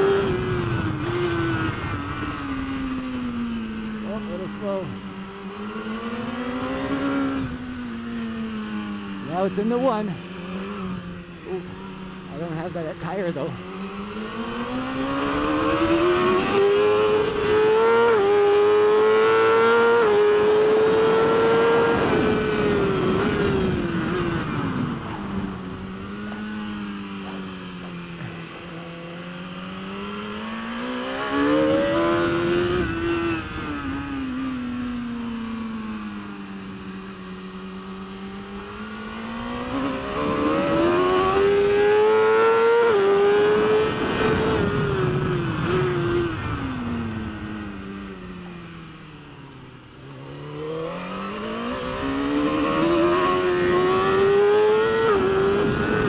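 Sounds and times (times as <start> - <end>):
racing motorcycle engine accelerating: 0.0 - 56.0.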